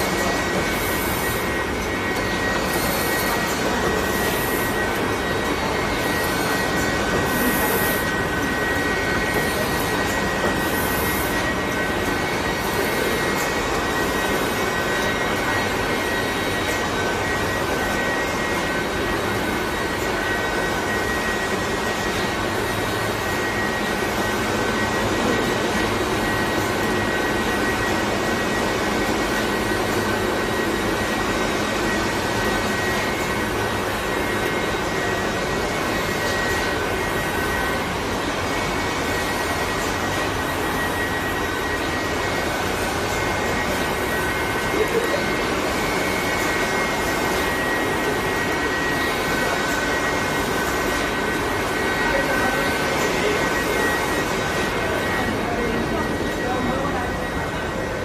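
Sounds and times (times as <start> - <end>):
steady high tones: 0.0 - 58.0.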